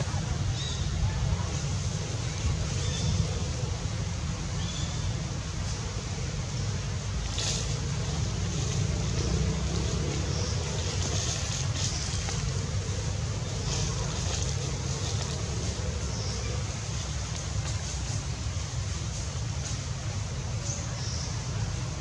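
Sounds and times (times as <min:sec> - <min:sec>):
faint hissy rustles: 0:00.0 - 0:22.0
wind rumbling on microphone: 0:00.0 - 0:22.0.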